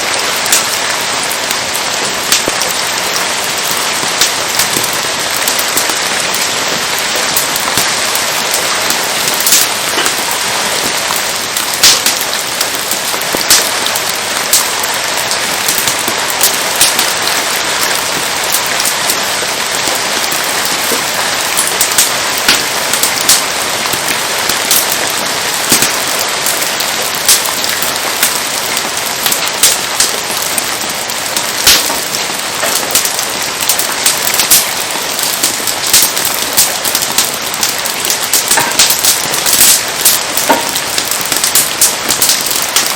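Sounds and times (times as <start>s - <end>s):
steady rain hiss: 0.0s - 42.9s
wood fire crackling: 0.0s - 42.9s.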